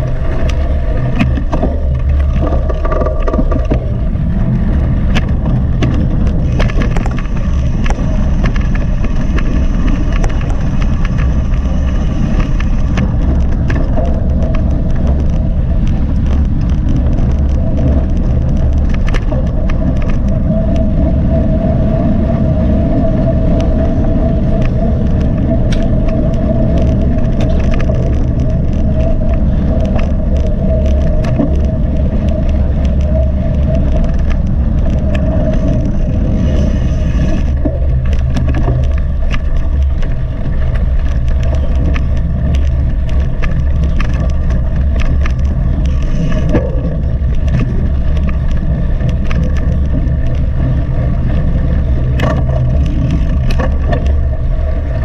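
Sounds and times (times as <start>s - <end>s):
bike rumbling over rough ground: 0.0s - 55.0s
steady hum: 0.0s - 55.0s.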